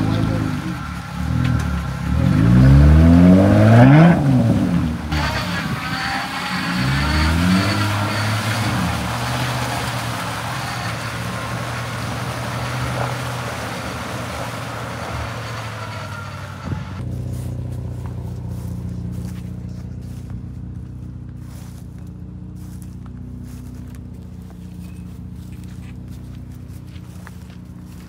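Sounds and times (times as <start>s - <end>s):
engine idling: 0.0s - 28.0s
truck engine revving: 0.0s - 28.0s
footsteps on wet ground: 5.2s - 28.0s.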